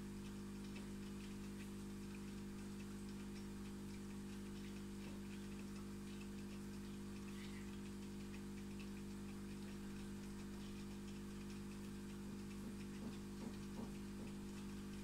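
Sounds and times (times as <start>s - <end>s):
aquarium pump hum: 0.0s - 15.0s
water ticking and patter: 0.0s - 15.0s.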